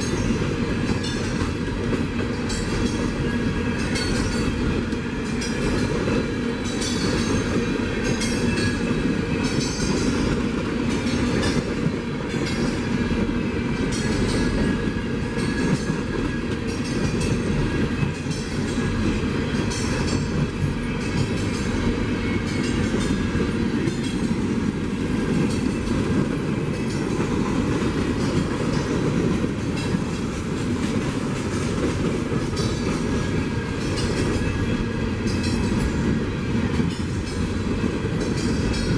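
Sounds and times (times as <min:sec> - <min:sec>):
railroad cars rolling past: 0:00.0 - 0:38.9.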